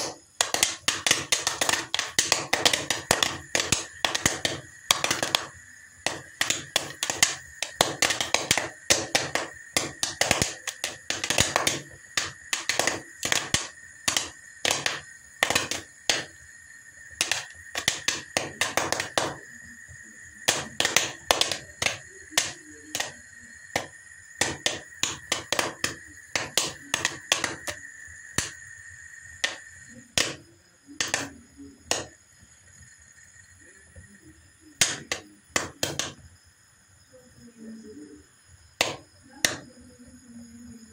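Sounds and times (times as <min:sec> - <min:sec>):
popcorn popping in a pan: 0:00.0 - 0:36.4, 0:38.5 - 0:40.2.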